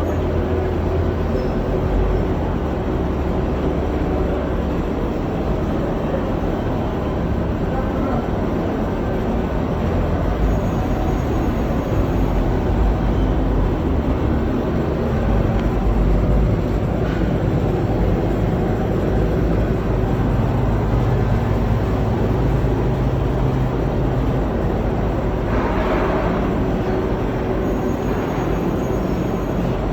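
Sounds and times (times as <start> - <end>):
machine humming and whirring: 0.0 - 29.9.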